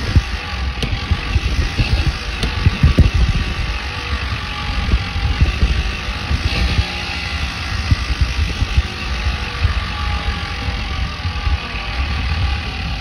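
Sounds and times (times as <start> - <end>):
low rumbling and knocks: 0.0 - 13.0
muffled motorbike engine: 0.0 - 13.0.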